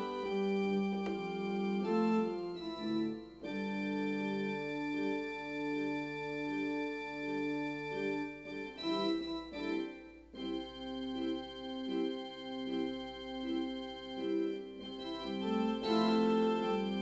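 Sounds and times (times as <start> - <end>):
slow keyboard chords: 0.0 - 17.0.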